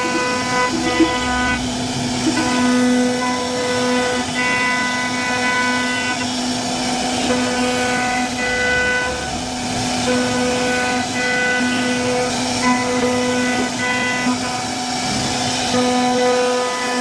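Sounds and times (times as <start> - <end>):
bit cutting into wood: 0.0 - 14.7
router spindle whining: 0.0 - 17.0.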